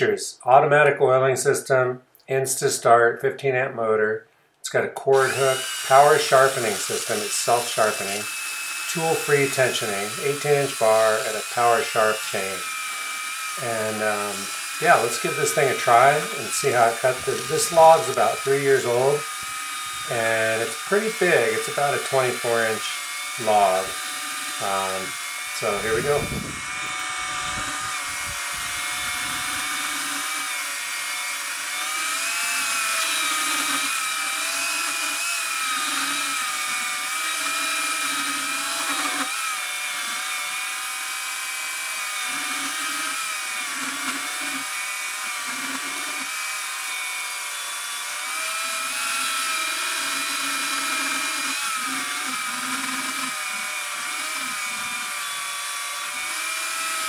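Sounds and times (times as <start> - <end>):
electric chainsaw cutting log: 5.1 - 57.0.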